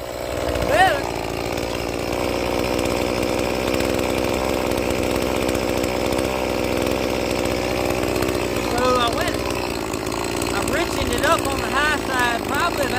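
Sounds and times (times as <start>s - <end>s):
chainsaw engine running: 0.0s - 12.9s.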